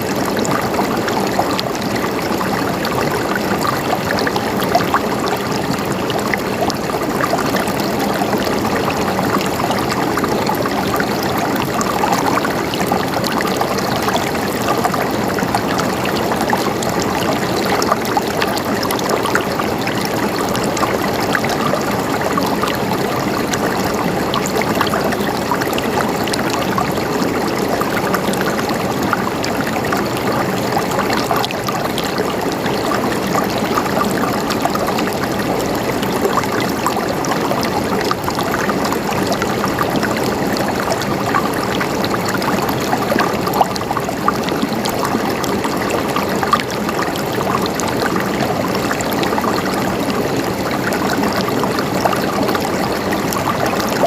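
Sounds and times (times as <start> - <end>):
running water gurgling: 0.0 - 54.0.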